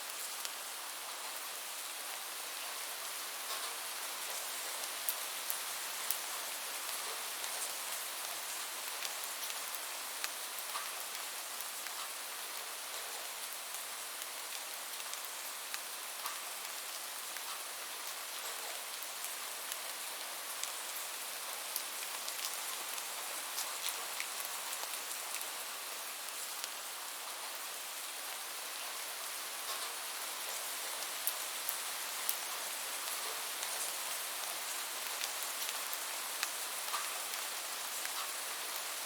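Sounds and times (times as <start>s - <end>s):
steady rain: 0.0s - 39.0s
raindrops ticking on a surface: 0.1s - 39.0s.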